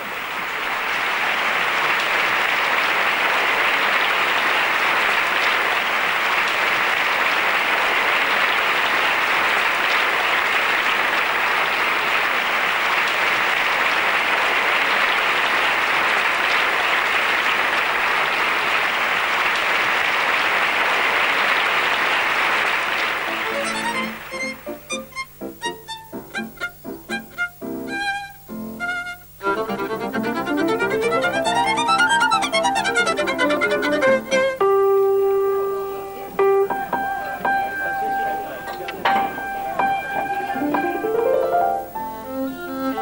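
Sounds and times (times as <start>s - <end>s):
audience applauding: 0.0s - 27.6s, 28.8s - 43.0s.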